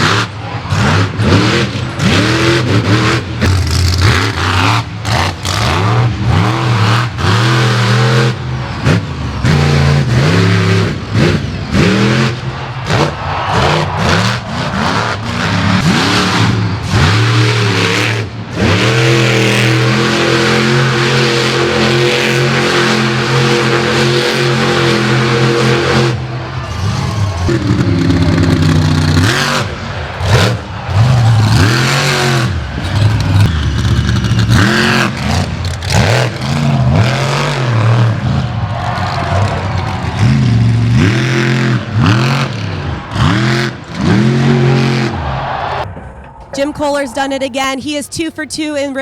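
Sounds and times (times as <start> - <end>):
truck engine revving hard: 0.0 - 45.9.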